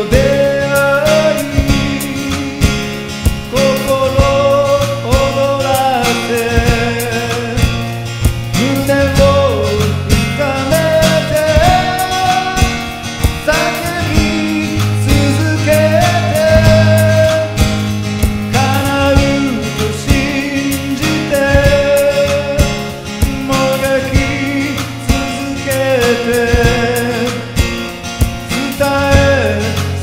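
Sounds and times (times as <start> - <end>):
person singing: 0.0 - 17.9, 18.5 - 27.7, 28.4 - 30.0
band with bass and beat: 0.0 - 30.0.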